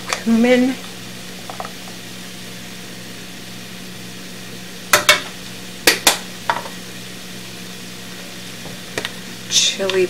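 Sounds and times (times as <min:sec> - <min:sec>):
onions frying in pan: 0:00.0 - 0:10.0.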